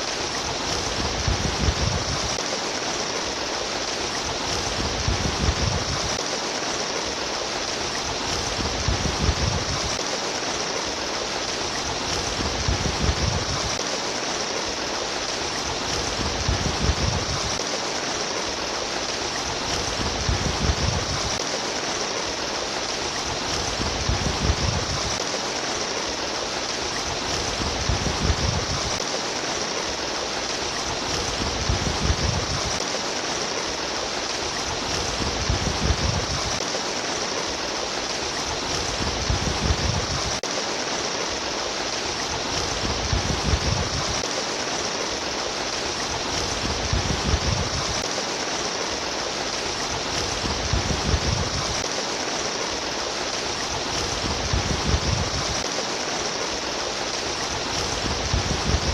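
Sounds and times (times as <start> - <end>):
babbling stream: 0.0 - 58.9.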